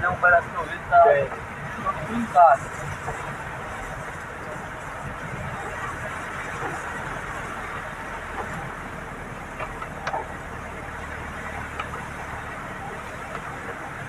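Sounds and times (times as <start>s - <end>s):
engine hum: 0.0s - 14.0s
rain on glass: 0.0s - 14.0s
tyres hissing on wet road: 0.0s - 14.0s.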